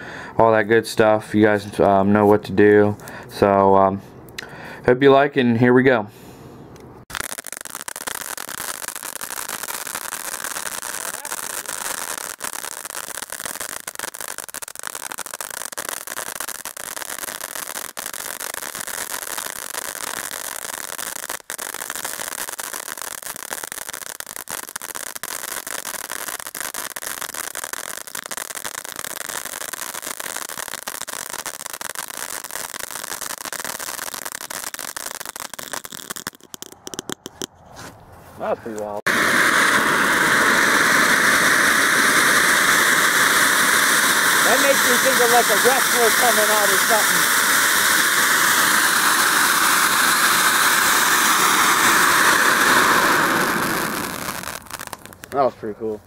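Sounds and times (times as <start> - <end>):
fireworks fountain hissing and crackling: 7.0 - 37.5, 38.6 - 56.0.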